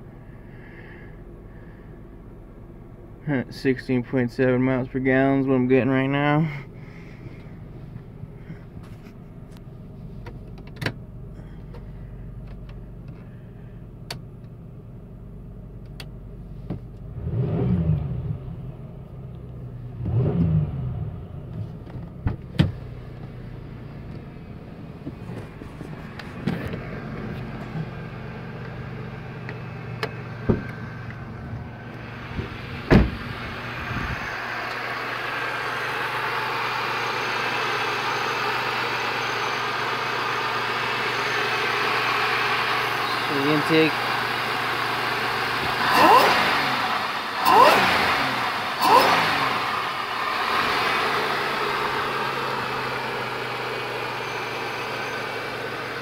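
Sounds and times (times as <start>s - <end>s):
car engine idling: 0.0s - 17.4s, 18.1s - 56.0s.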